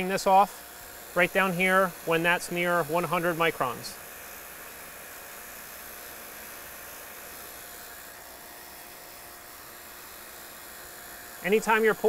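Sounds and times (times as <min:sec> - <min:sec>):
vacuum pump running: 0:00.0 - 0:12.0.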